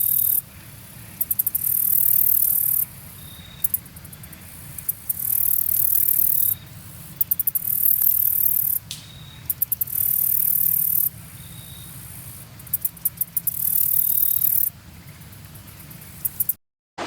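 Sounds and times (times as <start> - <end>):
steady low hum: 0.0 - 16.5
high-pitched rattling buzz: 0.0 - 16.6.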